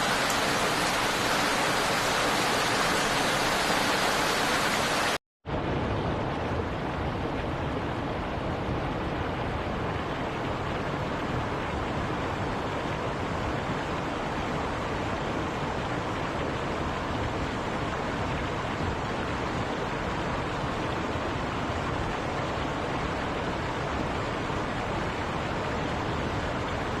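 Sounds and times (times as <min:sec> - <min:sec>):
steady rain hiss: 0:00.0 - 0:05.2, 0:06.6 - 0:27.0.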